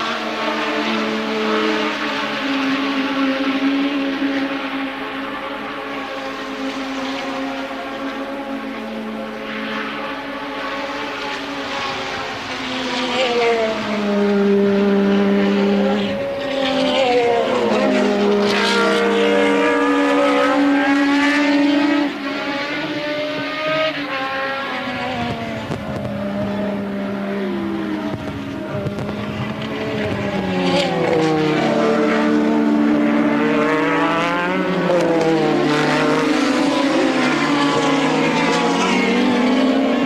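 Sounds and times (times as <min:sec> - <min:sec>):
race car engines passing: 0:00.0 - 0:40.0.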